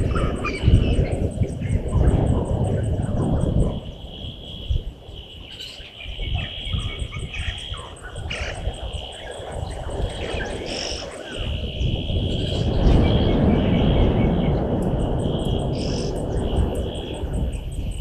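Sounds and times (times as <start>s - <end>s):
uneven low rumble: 0.0s - 5.4s, 6.1s - 18.0s
high insect drone: 0.0s - 18.0s.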